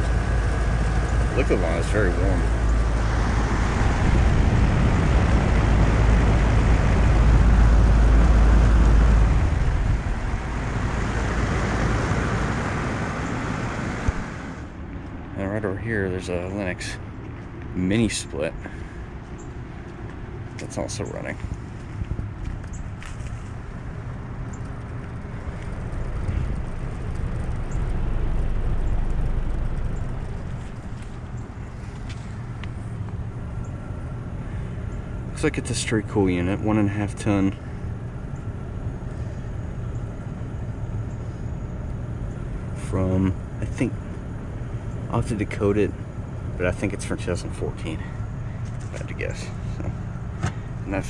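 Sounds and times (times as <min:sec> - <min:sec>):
air conditioner fan whoosh: 0:00.0 - 0:51.0
compressor hum: 0:00.0 - 0:51.0
low rumble of outlet air: 0:00.0 - 0:51.0.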